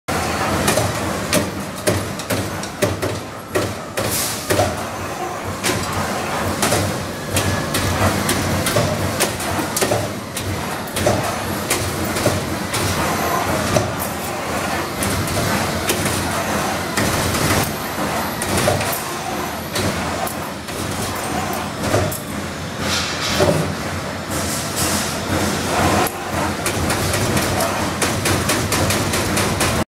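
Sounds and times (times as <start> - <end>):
punching machine running: 0.1 - 29.9.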